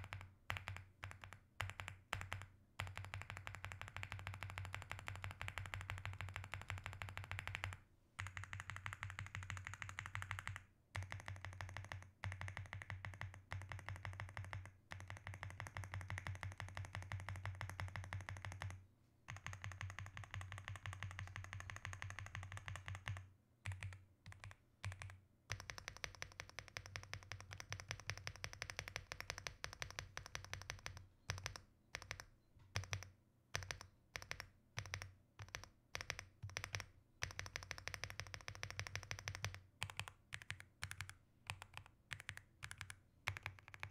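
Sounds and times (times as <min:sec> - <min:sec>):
mechanical keyboard typing: 0:00.0 - 0:43.9.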